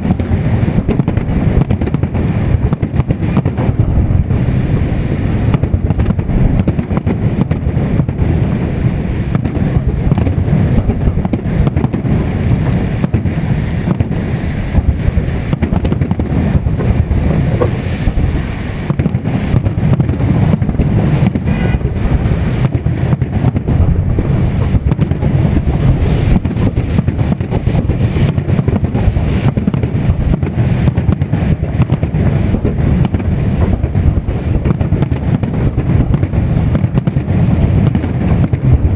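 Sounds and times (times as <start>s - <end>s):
fireworks bangs and pops: 0.0s - 38.9s
wind buffeting microphone: 0.0s - 38.9s.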